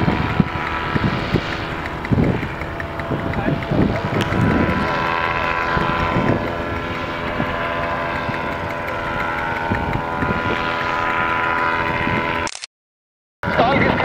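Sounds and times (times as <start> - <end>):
wind buffeting microphone: 0.0 - 12.4
paramotor engines droning: 0.0 - 12.5, 13.4 - 14.0.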